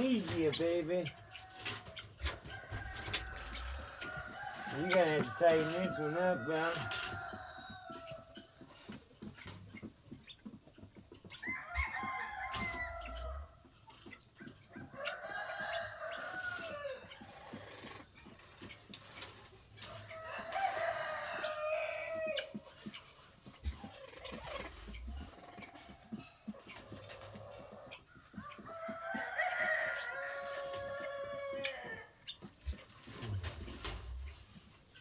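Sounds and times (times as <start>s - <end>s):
roosters crowing: 0.0s - 9.0s, 11.3s - 35.0s
hens clucking: 0.0s - 35.0s.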